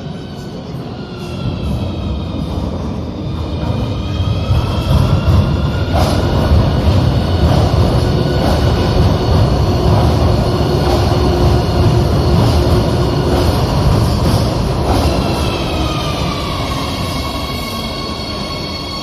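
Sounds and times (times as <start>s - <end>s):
metro train rumbling: 0.0s - 19.0s
train whining: 0.0s - 19.0s.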